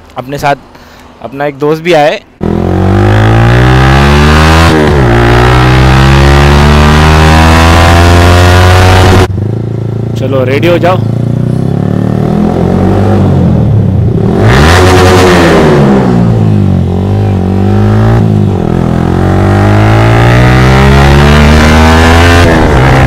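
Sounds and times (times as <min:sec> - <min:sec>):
motorcycle engine revving: 0:02.4 - 0:23.0.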